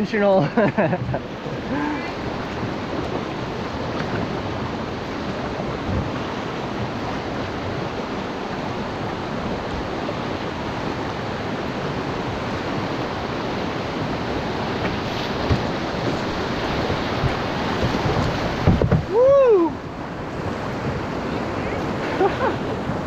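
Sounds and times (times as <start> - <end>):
river rapids rushing: 1.2 - 23.0.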